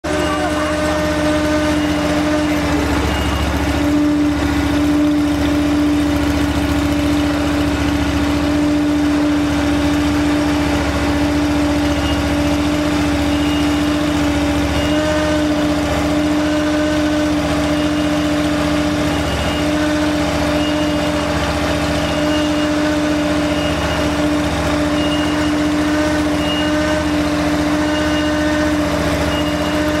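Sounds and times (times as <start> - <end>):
constant whine: 0.0 - 30.0
engine rumble: 0.0 - 30.0.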